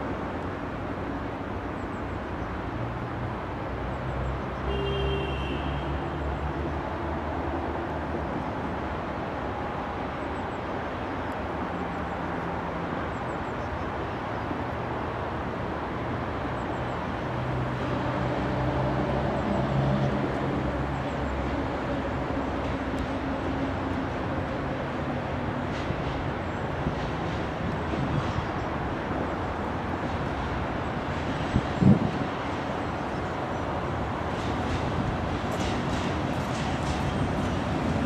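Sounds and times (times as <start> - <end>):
freight train rumbling: 4.6 - 38.0.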